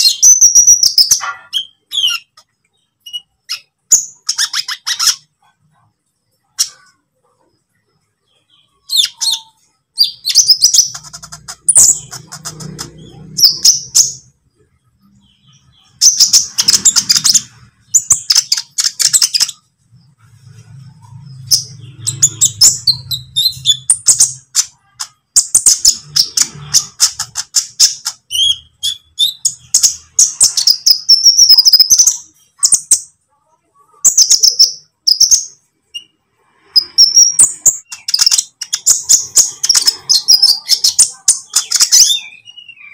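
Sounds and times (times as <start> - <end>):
high-pitched bird twittering: 0.0 - 5.3, 8.4 - 14.4, 15.1 - 19.7, 21.0 - 33.2, 34.0 - 42.9.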